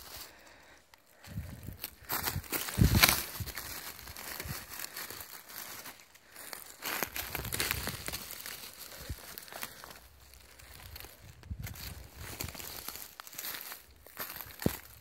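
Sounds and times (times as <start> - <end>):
dry leaves and twigs rustling: 0.0 - 15.0.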